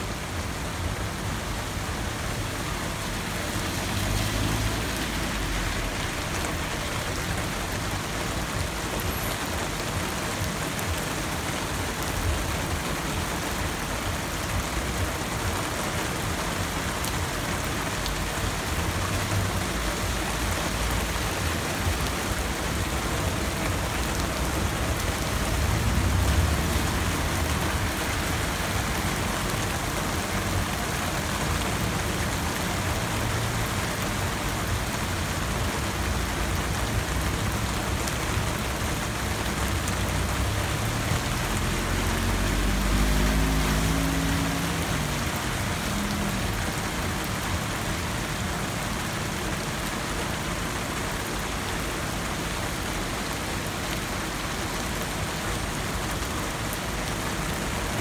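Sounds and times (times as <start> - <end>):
heavy rain splashing into water: 0.0 - 58.0.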